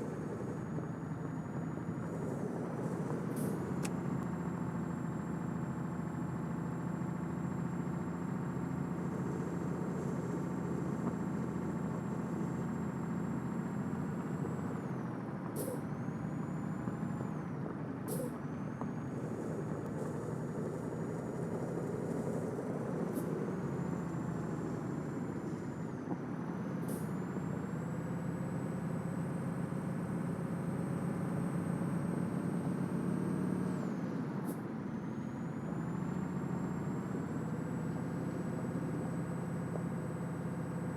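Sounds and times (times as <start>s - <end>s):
truck diesel engine pulling: 0.0s - 40.9s.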